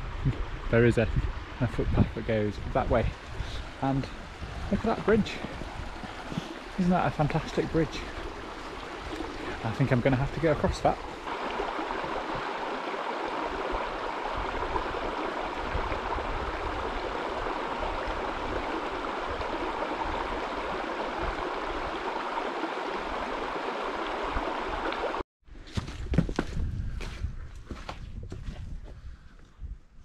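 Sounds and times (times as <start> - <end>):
stream rushing water: 0.0 - 25.2.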